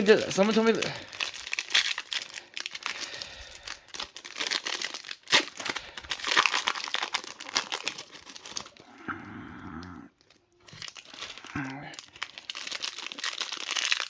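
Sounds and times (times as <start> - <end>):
wrappers torn and crinkled: 0.0 - 9.1, 9.8 - 14.0.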